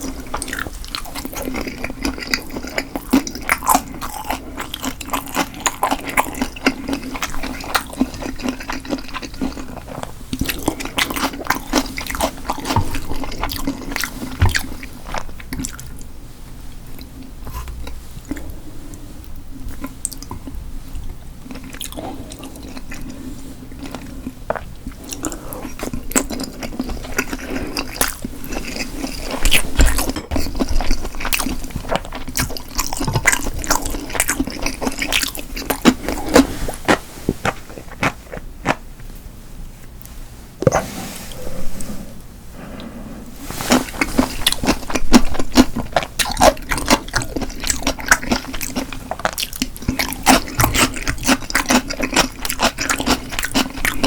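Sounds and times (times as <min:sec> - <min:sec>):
wet chewing: 0:00.0 - 0:16.0, 0:21.5 - 0:38.8, 0:40.0 - 0:54.0.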